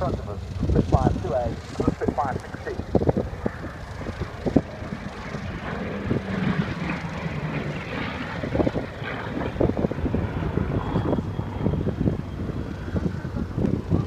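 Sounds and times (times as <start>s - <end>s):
propeller aircraft droning: 0.0s - 14.0s.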